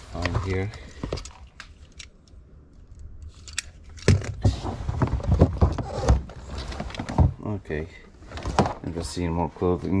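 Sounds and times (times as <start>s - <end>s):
belongings clattering and rustling: 0.0s - 7.6s, 8.2s - 9.3s.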